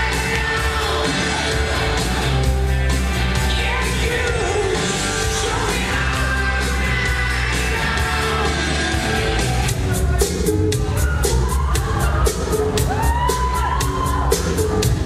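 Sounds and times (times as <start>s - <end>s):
rock music with singer: 0.0s - 15.0s.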